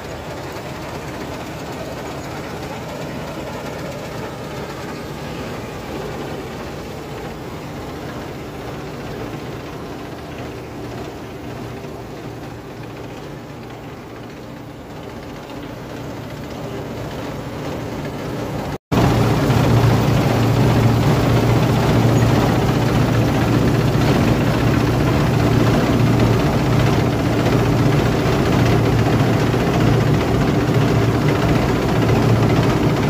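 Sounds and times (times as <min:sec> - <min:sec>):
combine harvester clatter: 0:00.0 - 0:33.0
diesel engine drone: 0:00.0 - 0:33.0.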